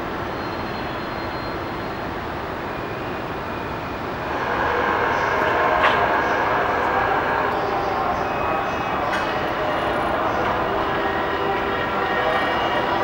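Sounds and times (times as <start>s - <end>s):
electric locomotive humming: 0.0s - 13.0s.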